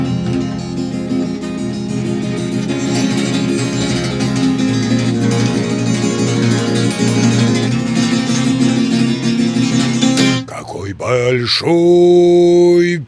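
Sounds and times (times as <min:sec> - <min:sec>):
acoustic guitar strumming: 0:00.0 - 0:10.5.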